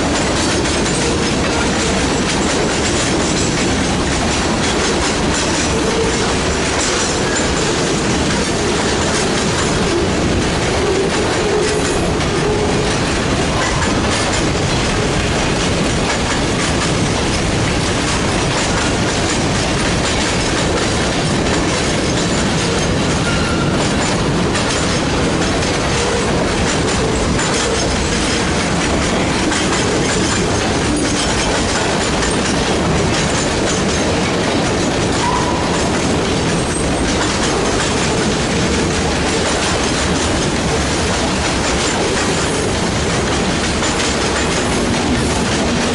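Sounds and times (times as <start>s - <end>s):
steel train wheels clattering on rails: 0.0s - 45.9s.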